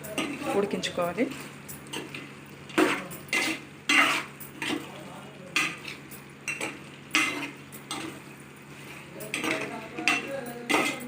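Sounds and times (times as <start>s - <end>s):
spoon scraping a pan: 0.0s - 11.0s.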